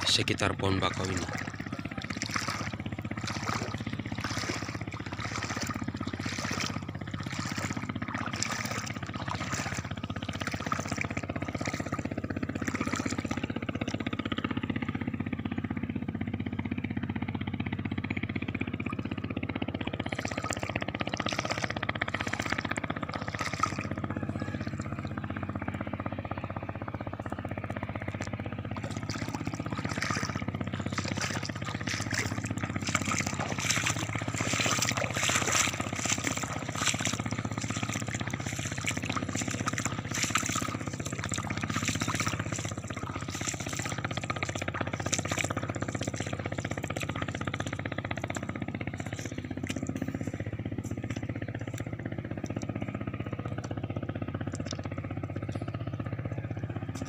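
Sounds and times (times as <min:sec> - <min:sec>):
footsteps splashing through water: 0:00.0 - 0:14.2, 0:18.6 - 0:25.2, 0:28.0 - 0:52.8, 0:54.4 - 0:55.7
steady low rumble: 0:00.0 - 0:57.0.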